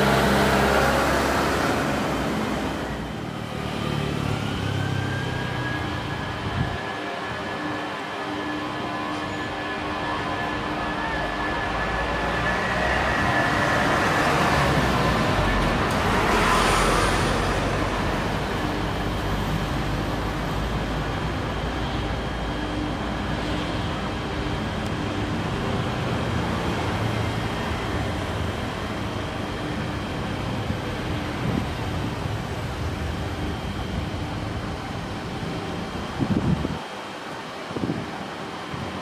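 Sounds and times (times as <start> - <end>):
jet engines at high power: 0.0 - 39.0.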